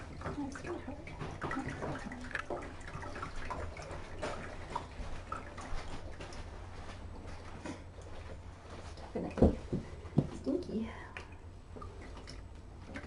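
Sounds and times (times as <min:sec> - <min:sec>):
liquid splashing and dripping: 0:00.0 - 0:13.0.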